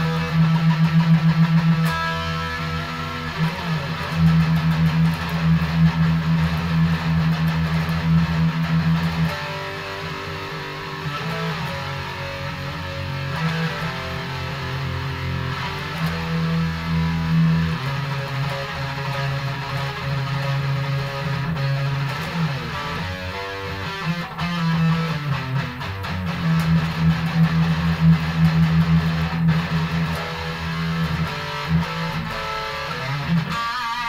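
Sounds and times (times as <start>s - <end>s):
high-gain electric guitar riff: 0.0s - 34.0s.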